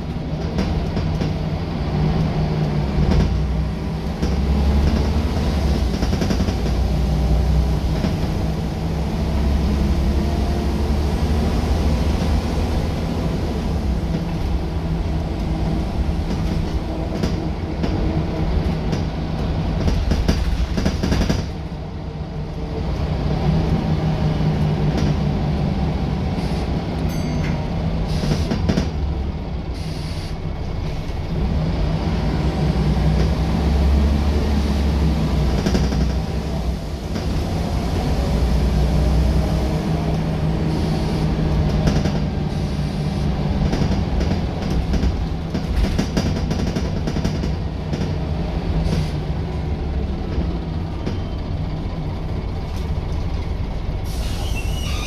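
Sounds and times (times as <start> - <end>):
bus diesel engine under load: 0.0 - 55.0
road noise: 0.0 - 55.0.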